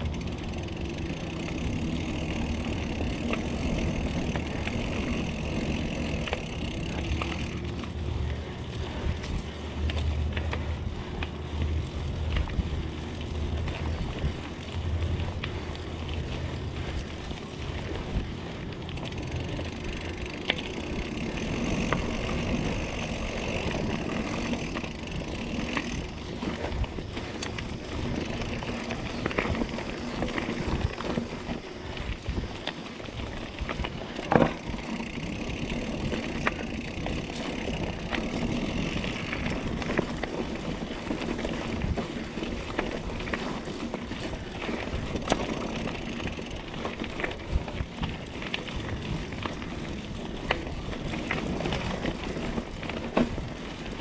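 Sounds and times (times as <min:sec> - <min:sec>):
bike clicking and rattling: 0:00.0 - 0:54.0
bike tyres on dirt: 0:00.0 - 0:54.0
wind rumble on microphone: 0:00.0 - 0:54.0.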